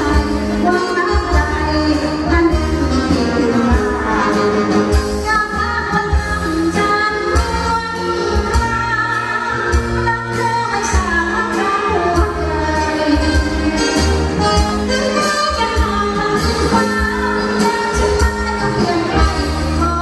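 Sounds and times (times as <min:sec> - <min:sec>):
live band with drums and horns: 0:00.0 - 0:20.0
woman singing into a microphone: 0:00.0 - 0:20.0.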